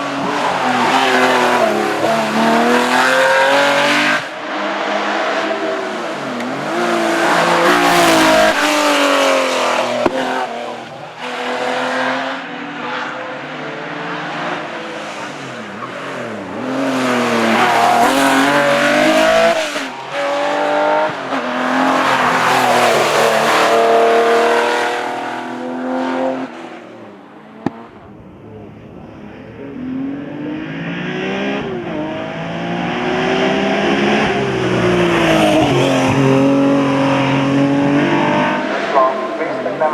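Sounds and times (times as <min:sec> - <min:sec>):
car engine revving through gears: 0:00.0 - 0:28.3, 0:29.0 - 0:39.9.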